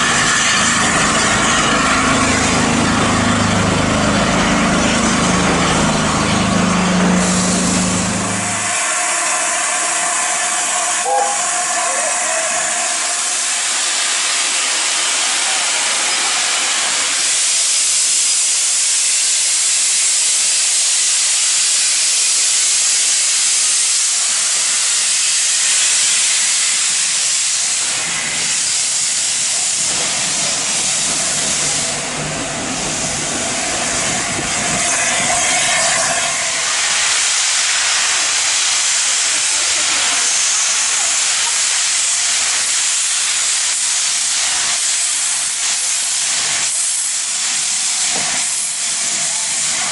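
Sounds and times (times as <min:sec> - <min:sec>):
steam locomotive hissing: 0:00.0 - 0:49.9.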